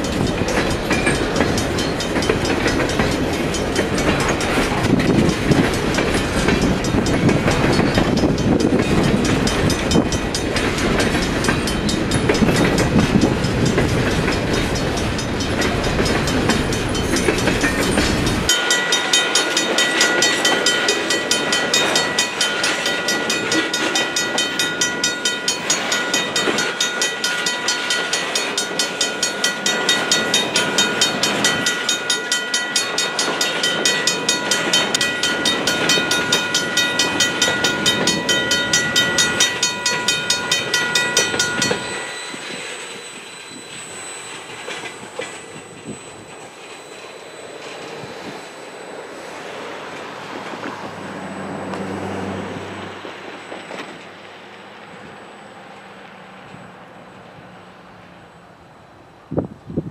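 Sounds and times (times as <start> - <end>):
steady high-pitched tones: 0.0 - 56.9
distant train sound: 0.0 - 59.9
train wheels rumbling on rails: 0.0 - 59.9.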